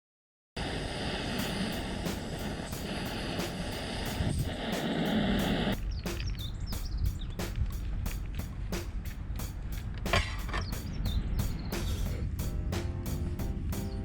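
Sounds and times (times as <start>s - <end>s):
music with fast beat: 1.4s - 14.0s.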